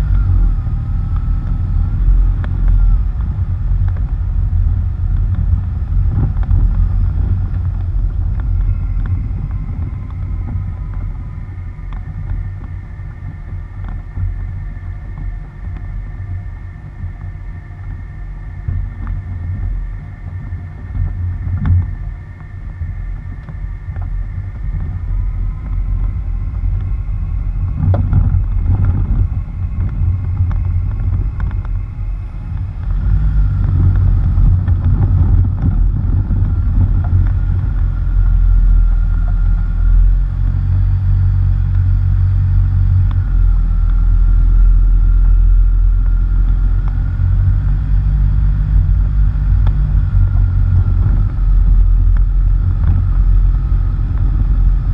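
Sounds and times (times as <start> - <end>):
faint steady whine: 0.0 - 54.9
tyre and wind rumble: 0.0 - 54.9.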